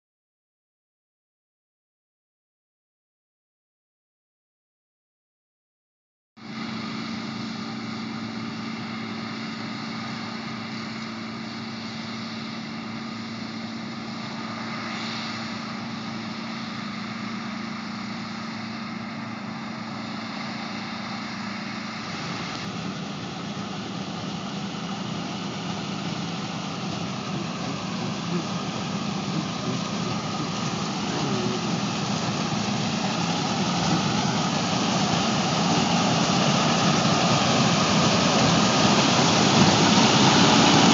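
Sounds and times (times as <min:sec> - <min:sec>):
combine harvester engine running: 0:06.4 - 0:40.9
wavering high whine: 0:06.4 - 0:40.9.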